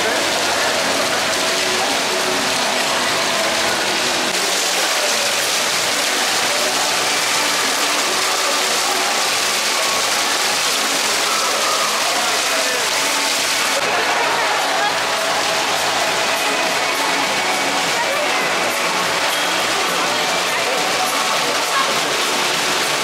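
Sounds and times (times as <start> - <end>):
faint chatter of voices: 0.0 - 23.0.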